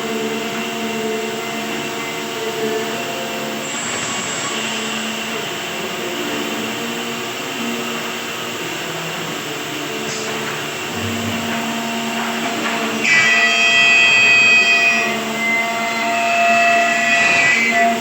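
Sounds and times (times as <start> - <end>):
power tool motor whine: 0.0 - 18.0.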